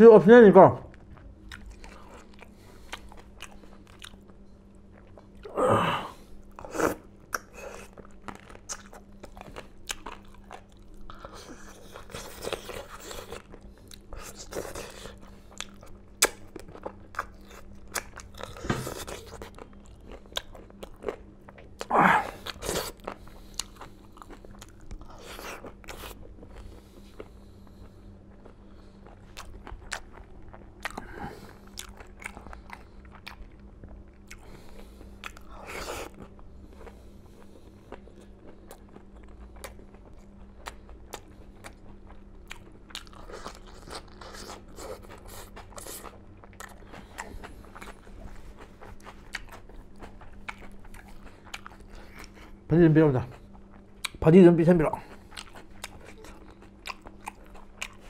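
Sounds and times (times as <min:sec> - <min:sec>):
faint steady hum: 0:00.0 - 0:58.0
man chewing and lip smacking: 0:00.9 - 0:05.5, 0:06.4 - 0:54.2, 0:54.9 - 0:58.0.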